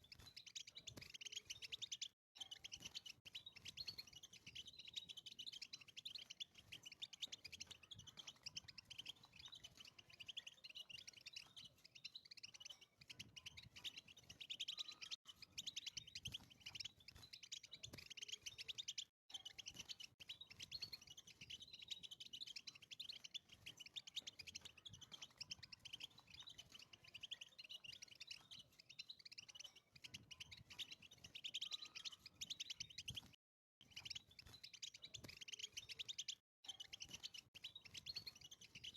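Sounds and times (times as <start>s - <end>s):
goldfinch twittering song: 0.0s - 38.9s.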